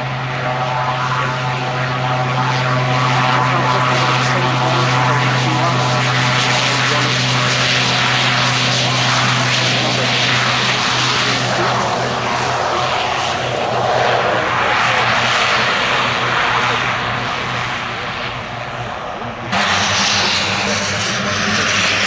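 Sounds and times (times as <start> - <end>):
turboprop engine running: 0.0 - 22.0.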